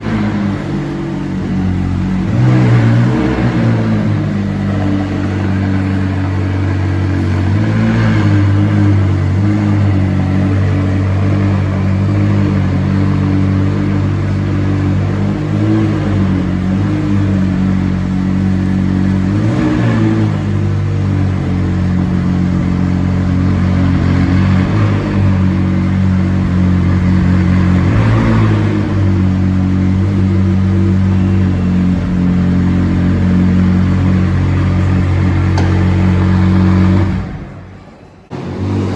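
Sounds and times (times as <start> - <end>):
loud car engine idling: 0.0 - 38.9.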